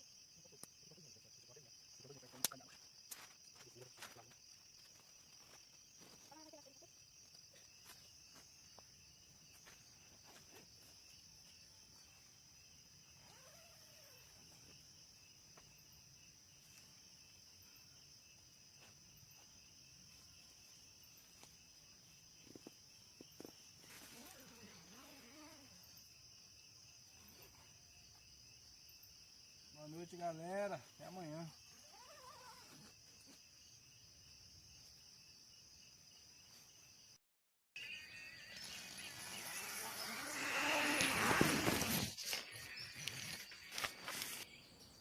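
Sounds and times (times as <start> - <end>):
night insects trilling: 0.0 - 37.2, 37.8 - 45.0.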